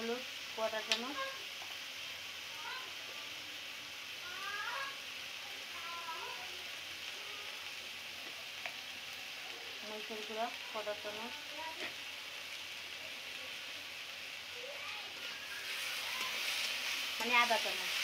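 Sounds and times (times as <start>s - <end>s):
onions and potatoes frying: 0.0s - 18.0s.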